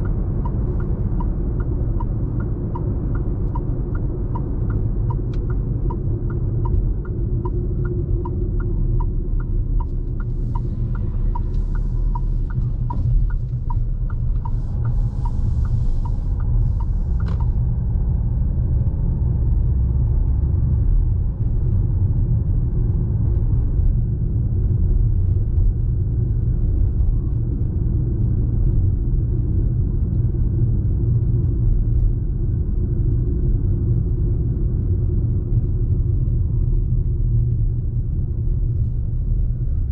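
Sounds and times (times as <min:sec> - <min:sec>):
turn signal ticking: 0:00.0 - 0:39.9
vehicle engine and road rumble: 0:00.0 - 0:39.9.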